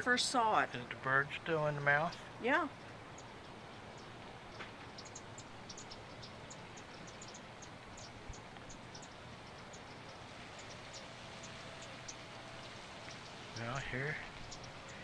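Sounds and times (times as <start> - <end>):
insects chirping: 0.0 - 15.0
steady outdoor hiss: 0.0 - 15.0.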